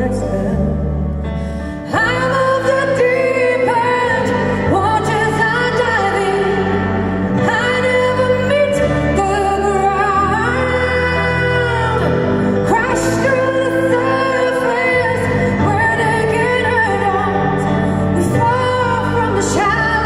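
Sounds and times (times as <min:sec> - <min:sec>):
woman singing a slow ballad: 0:00.0 - 0:20.0.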